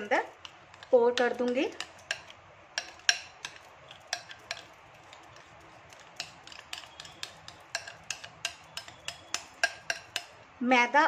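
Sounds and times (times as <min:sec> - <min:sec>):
metal spoon scraping a glass: 0:00.2 - 0:10.4.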